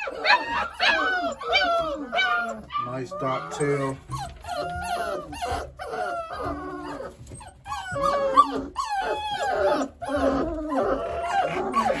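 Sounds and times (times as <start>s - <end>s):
puppies whining and whimpering: 0.0s - 12.0s.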